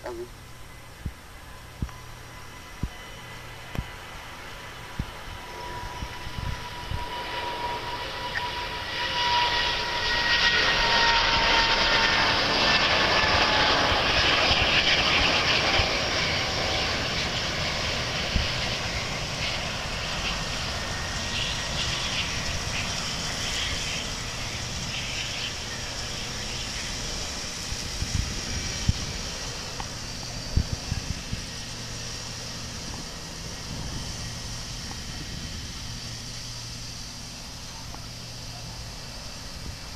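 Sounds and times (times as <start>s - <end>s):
jet airliner roar with whine: 0.0s - 39.9s.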